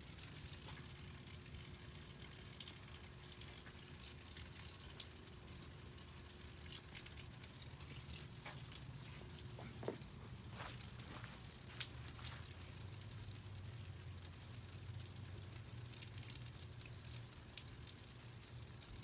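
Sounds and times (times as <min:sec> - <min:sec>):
rain spilling off a roof: 0:00.0 - 0:19.0
water drops ticking on porch: 0:00.0 - 0:19.0.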